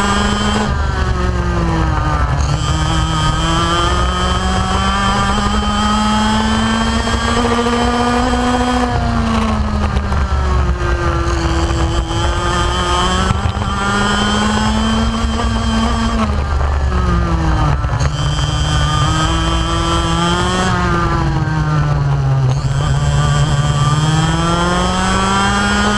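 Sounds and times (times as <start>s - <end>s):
kart engine revving: 0.0s - 25.9s.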